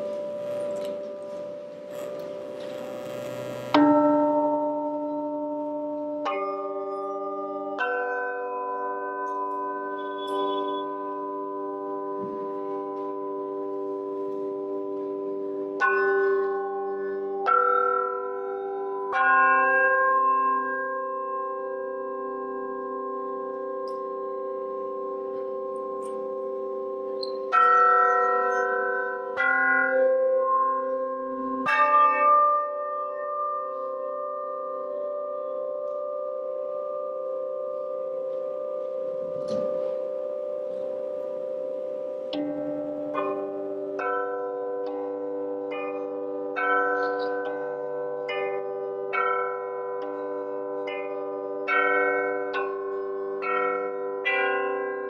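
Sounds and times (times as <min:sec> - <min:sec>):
metal bells struck with mallet: 0:00.0 - 0:35.0, 0:42.3 - 0:55.0.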